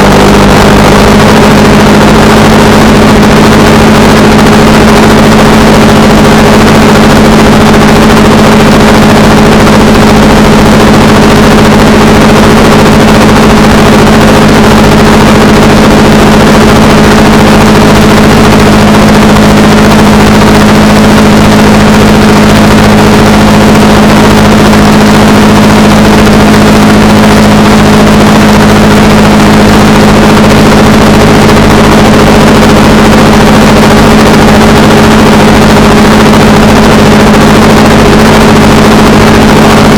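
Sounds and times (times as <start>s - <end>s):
motorcycle engine cruising: 0.0s - 39.9s
rush of wind noise: 0.0s - 39.9s.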